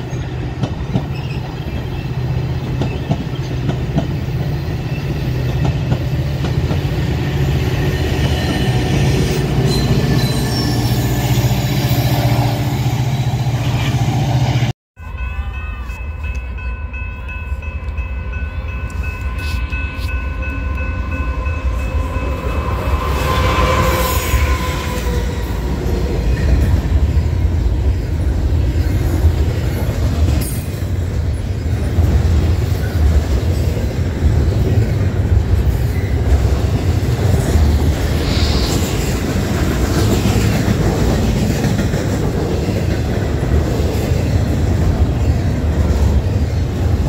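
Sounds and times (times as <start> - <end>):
train passing rumble: 0.0 - 47.0.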